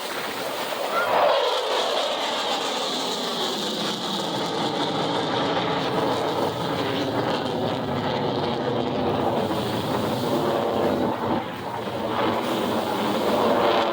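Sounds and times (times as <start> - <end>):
jet engine flyby roar: 0.0 - 13.9.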